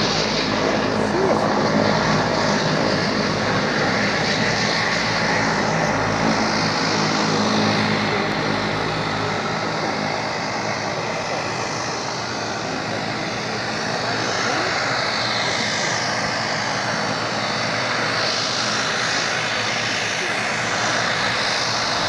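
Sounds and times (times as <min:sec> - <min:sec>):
turboprop engine drone: 0:00.0 - 0:22.0.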